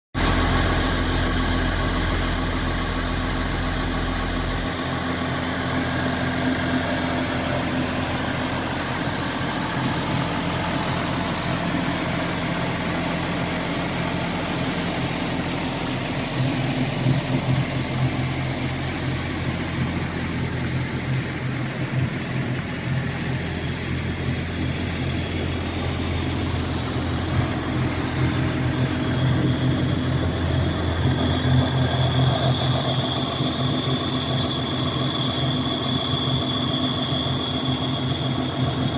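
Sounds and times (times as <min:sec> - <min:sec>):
tractor diesel engine idling: 0:00.2 - 0:36.0.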